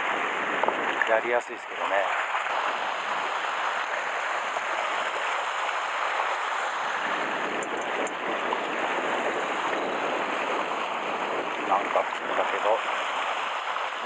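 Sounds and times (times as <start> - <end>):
waves washing against rocks: 0.0 - 14.0.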